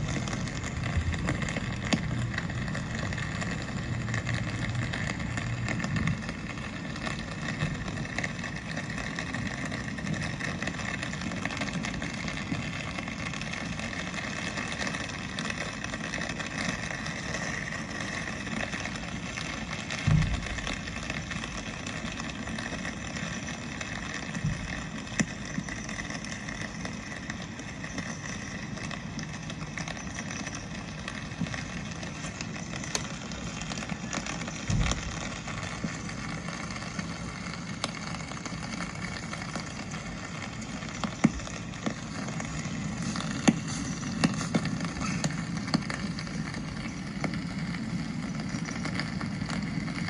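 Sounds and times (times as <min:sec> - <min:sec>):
rain hissing on a street: 0:00.0 - 0:50.0.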